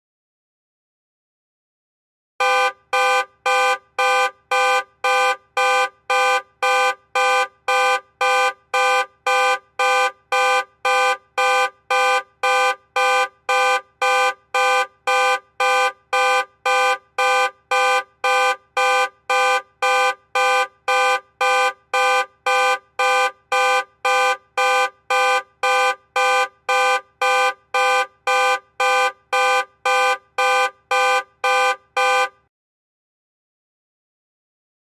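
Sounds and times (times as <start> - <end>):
car horn honking: 2.4 - 32.5.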